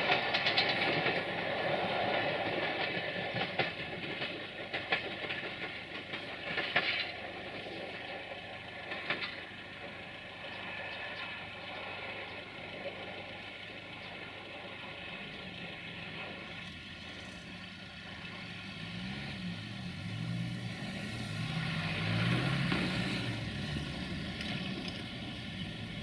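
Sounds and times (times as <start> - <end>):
diesel railcar engine running: 0.0 - 26.0.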